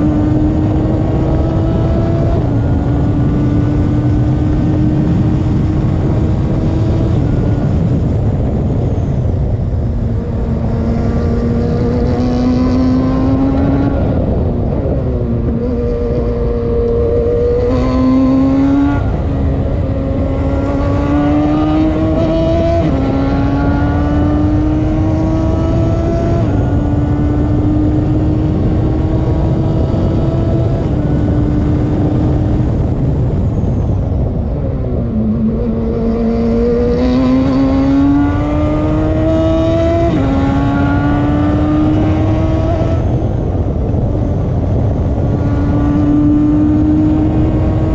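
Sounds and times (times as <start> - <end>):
race car engine running hard: 0.0 - 47.9.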